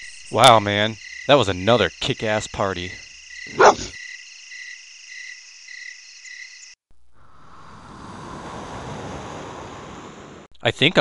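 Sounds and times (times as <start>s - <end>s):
crickets chirping: 0.0s - 10.4s.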